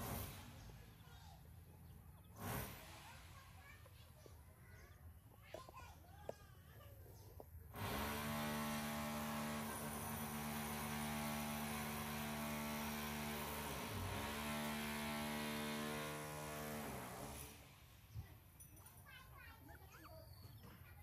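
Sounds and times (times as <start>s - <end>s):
steady motor hum: 0.0s - 6.5s, 7.1s - 18.3s.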